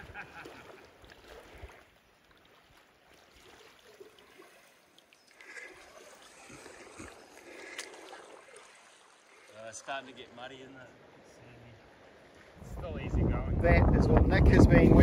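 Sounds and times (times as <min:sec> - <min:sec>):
river water sloshing around legs: 0:00.0 - 0:12.6.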